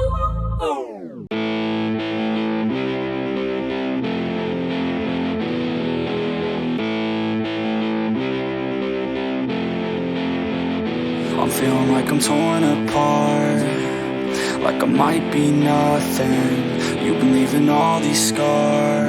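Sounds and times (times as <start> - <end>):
distorted electric guitar chords: 1.1 - 19.0.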